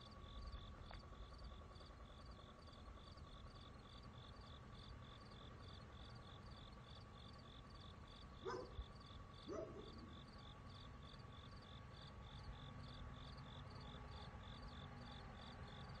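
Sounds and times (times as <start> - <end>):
faint constant whirr: 0.0 - 16.0
insect chirping: 0.0 - 16.0.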